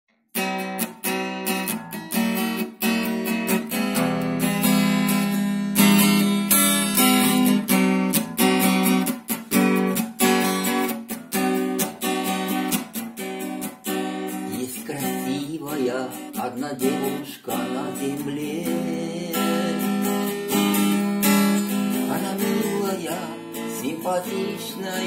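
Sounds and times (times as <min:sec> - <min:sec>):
acoustic guitar strumming: 0:00.3 - 0:25.0.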